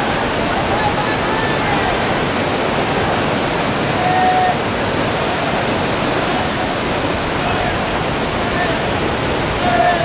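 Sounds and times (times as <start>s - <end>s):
whitewater rushing in rapids: 0.0s - 10.0s.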